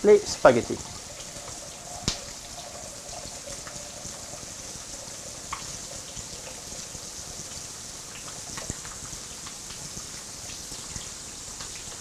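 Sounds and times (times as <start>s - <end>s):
chicken sizzling in hot oil: 0.0s - 12.0s
oil popping: 0.5s - 10.3s.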